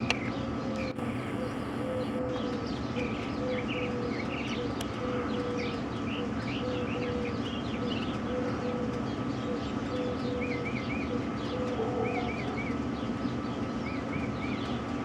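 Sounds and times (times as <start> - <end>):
steady low hum: 0.0 - 15.0
birds chirping and trilling: 0.2 - 14.9.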